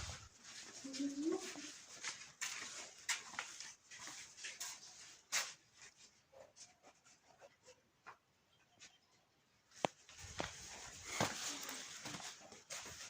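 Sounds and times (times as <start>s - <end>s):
scuffling and scratching: 0.0s - 8.2s, 9.7s - 13.0s.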